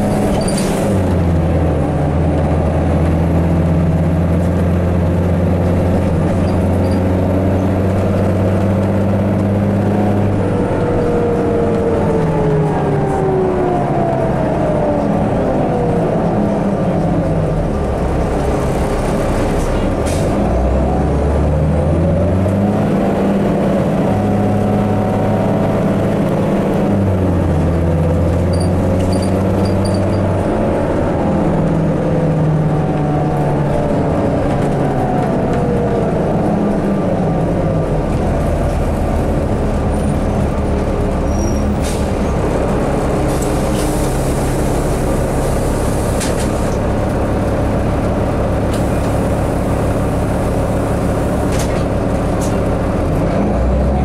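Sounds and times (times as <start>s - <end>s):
bus engine shifting gears: 0.0s - 54.0s.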